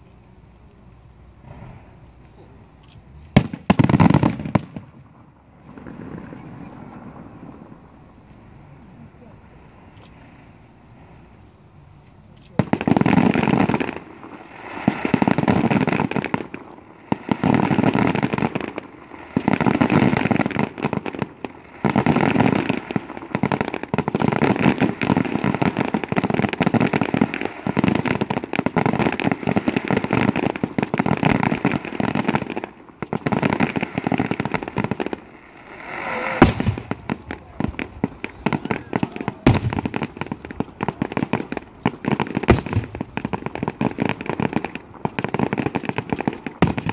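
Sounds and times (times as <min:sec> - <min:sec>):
firework bangs: 0:00.0 - 0:46.9
fireworks crackling: 0:00.0 - 0:46.9.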